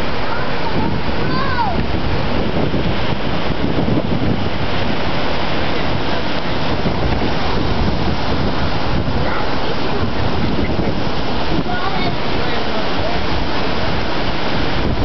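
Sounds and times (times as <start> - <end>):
strong gusting wind: 0.0 - 15.0.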